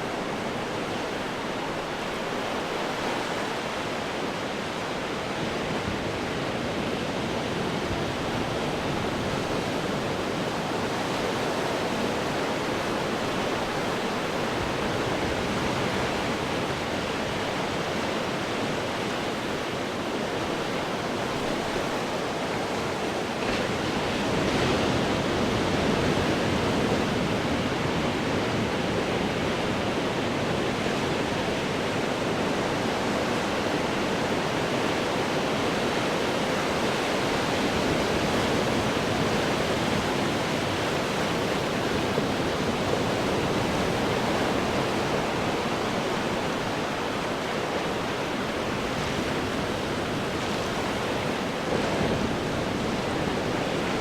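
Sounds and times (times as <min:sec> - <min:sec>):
ocean waves breaking on rocks: 0:00.0 - 0:54.0.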